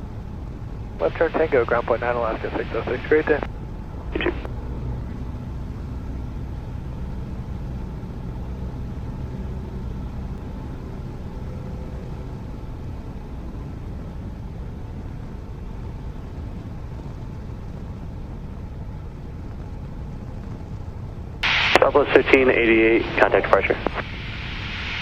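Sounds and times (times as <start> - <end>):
propeller plane engine drone: 0.0 - 25.0.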